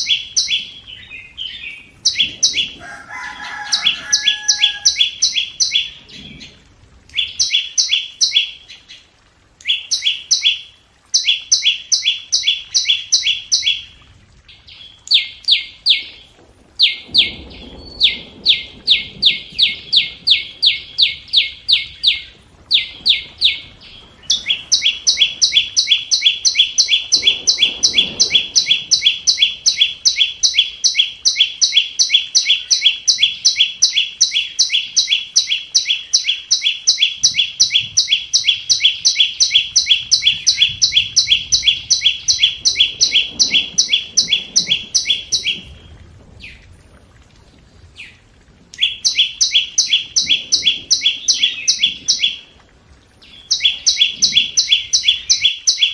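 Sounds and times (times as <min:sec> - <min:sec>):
bird rapid sharp ticking calls: 0:00.0 - 0:02.8, 0:03.4 - 0:06.5, 0:09.6 - 0:13.9, 0:16.8 - 0:45.7, 0:48.8 - 0:52.4, 0:53.2 - 0:55.9.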